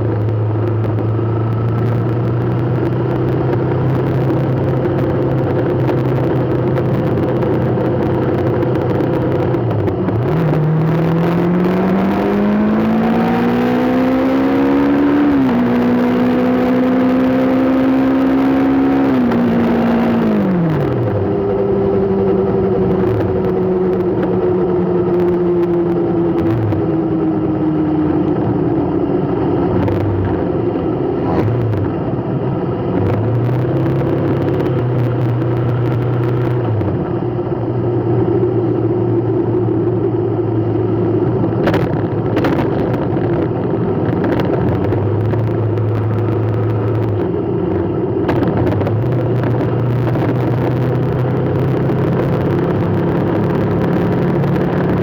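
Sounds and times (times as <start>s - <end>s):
car engine revving: 0.0s - 55.0s
road noise: 0.0s - 55.0s.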